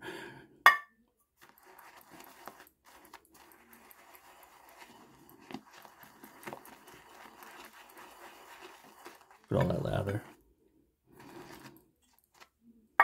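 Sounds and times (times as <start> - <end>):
shaving brush swirling lather: 1.4 - 10.4, 11.1 - 12.5.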